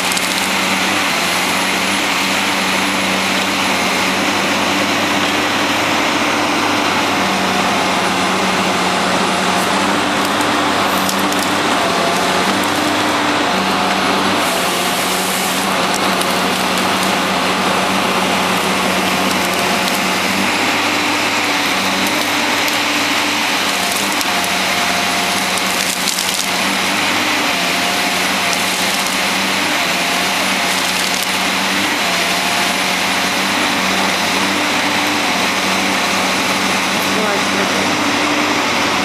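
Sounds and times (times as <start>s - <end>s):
wood cracking and splintering: 0.0s - 37.4s
diesel machine engine running: 0.0s - 39.0s
hydraulic whine: 0.0s - 39.0s.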